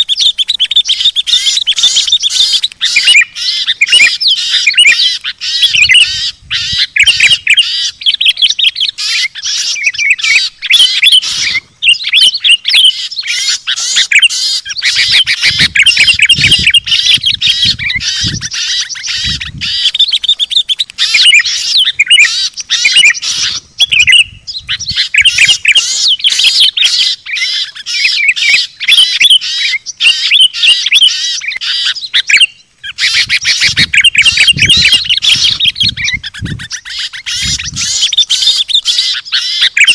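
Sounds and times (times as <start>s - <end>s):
songbirds chirping and chattering: 0.0s - 39.9s.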